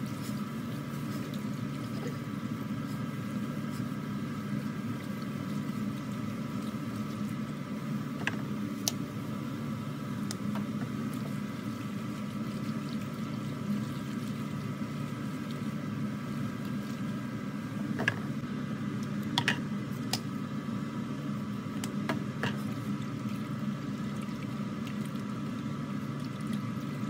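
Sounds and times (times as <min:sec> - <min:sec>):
machine hum: 0:00.0 - 0:27.0.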